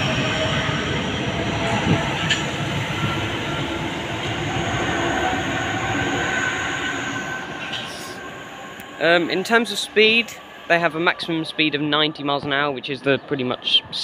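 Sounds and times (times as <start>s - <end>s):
trains rumbling on rails: 0.0s - 14.0s.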